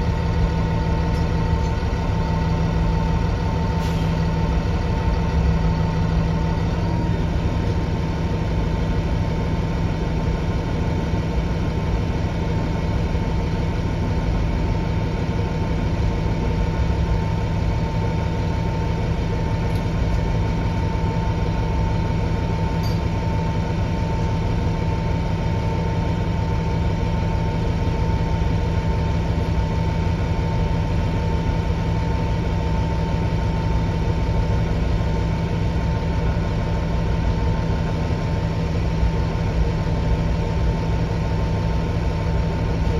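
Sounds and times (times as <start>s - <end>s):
bus engine drone: 0.0s - 42.9s
constant high whine: 0.0s - 42.9s.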